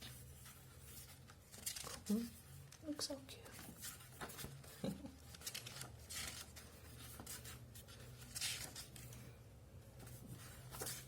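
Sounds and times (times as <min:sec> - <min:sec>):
paper pages rustling: 0:00.0 - 0:02.8, 0:03.4 - 0:11.0.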